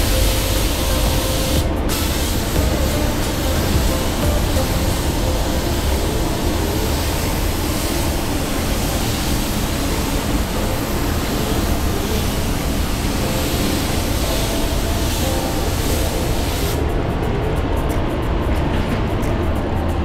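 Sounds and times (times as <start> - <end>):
spray gun air hiss: 0.0 - 16.9.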